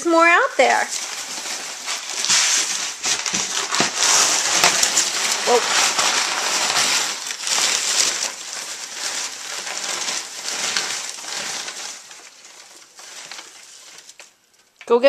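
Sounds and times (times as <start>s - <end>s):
pig rooting in paper: 0.6s - 14.4s
paper crinkling and rustling: 0.6s - 14.8s.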